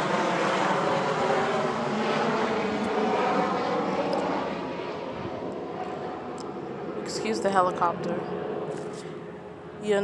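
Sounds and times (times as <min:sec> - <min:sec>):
helicopter flying overhead: 0:00.0 - 0:10.0.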